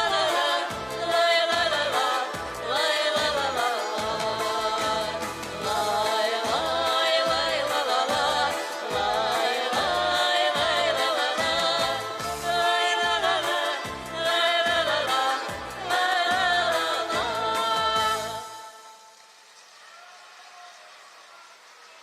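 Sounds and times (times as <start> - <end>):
folk song singing with accompaniment: 0.0 - 20.1.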